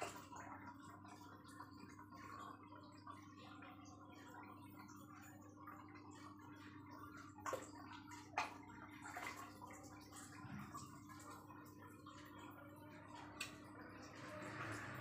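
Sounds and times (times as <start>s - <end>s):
pump hum: 0.0s - 15.0s.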